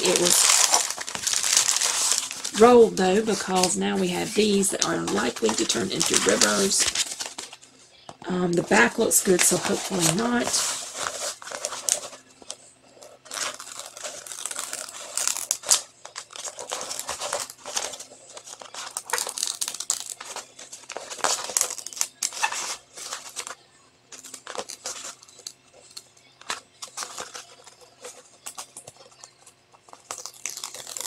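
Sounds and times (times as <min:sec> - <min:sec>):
plastic wrapping crinkling: 0:00.0 - 0:31.0.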